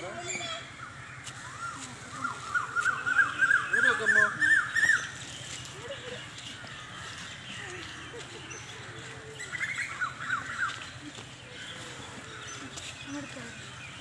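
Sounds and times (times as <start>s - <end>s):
birds chirping: 0.0s - 14.0s
outdoor background noise: 0.0s - 14.0s.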